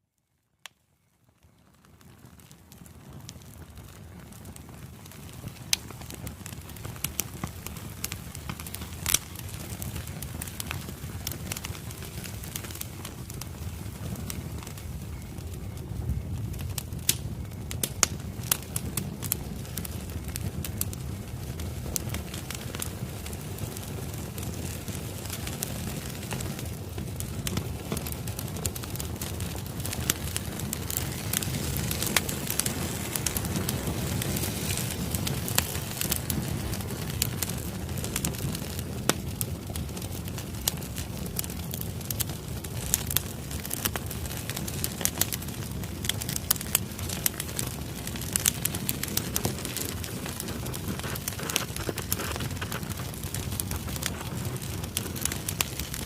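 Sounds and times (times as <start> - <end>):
fire low rumble: 0.6 - 56.0
firewood crackling and popping: 0.6 - 56.0.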